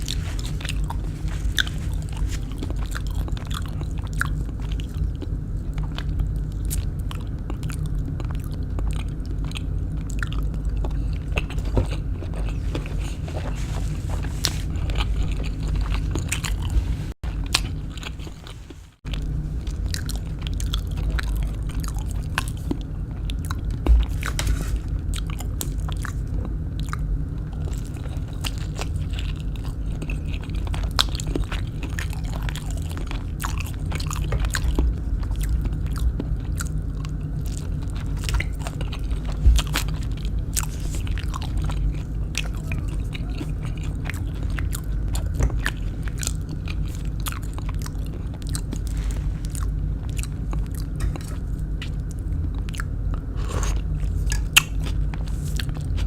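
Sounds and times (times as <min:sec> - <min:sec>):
chewing crunchy fried food: 0:00.0 - 0:56.0.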